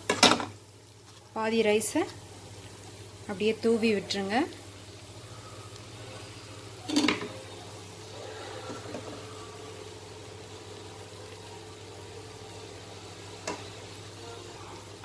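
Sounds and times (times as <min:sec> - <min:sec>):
steady low hum: 0:01.7 - 0:15.0.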